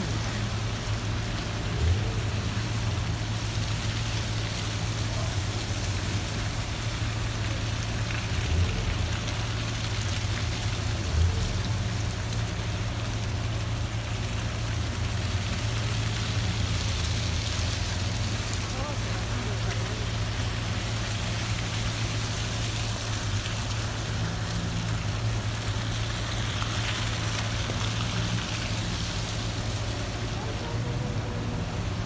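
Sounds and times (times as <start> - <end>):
car engines humming: 0.0 - 32.0
tyres hissing in wet slush: 0.0 - 32.0.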